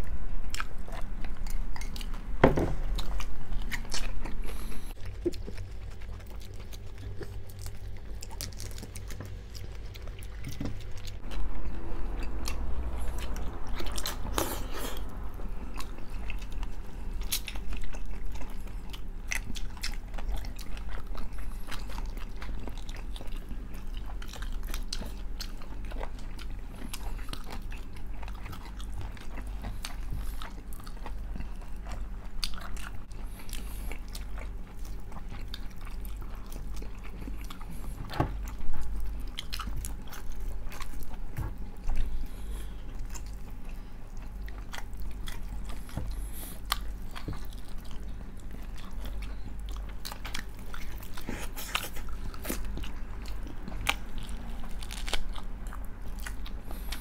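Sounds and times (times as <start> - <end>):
steady low hum: 0.0 - 57.0
person chewing and biting: 0.5 - 57.0.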